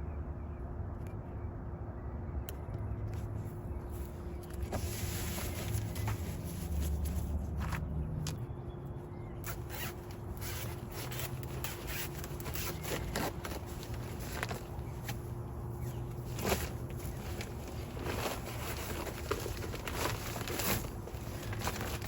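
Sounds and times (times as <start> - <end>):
low steady rumble: 0.0 - 22.0
rustling and scraping garden work: 3.1 - 8.6, 9.4 - 22.0.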